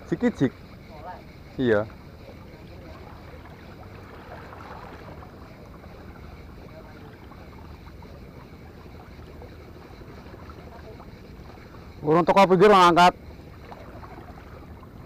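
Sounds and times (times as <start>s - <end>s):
sea water: 0.0s - 15.0s
wind: 0.0s - 15.0s.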